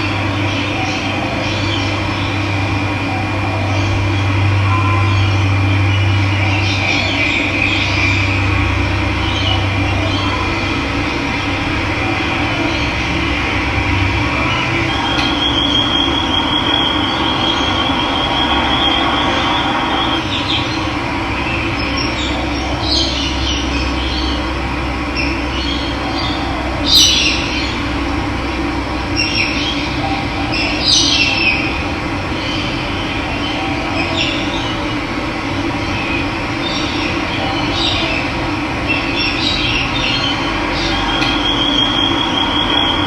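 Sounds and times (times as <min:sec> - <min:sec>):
birds calling: 0:00.0 - 0:43.0.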